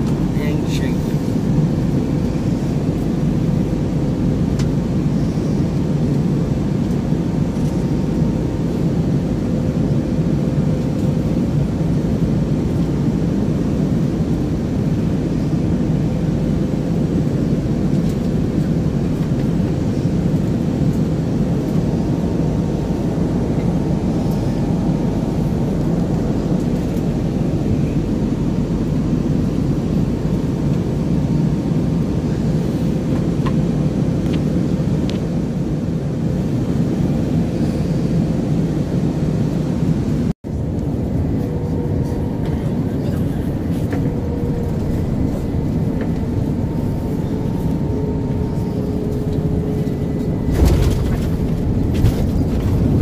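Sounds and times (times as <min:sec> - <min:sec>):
airliner cabin rumble: 0:00.0 - 0:53.0
faint steady hum: 0:00.0 - 0:53.0.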